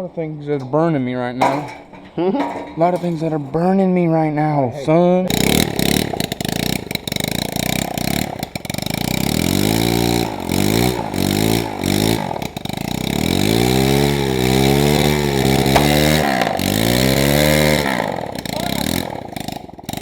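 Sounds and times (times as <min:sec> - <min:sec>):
pit bike engine revving: 0:00.0 - 0:20.0.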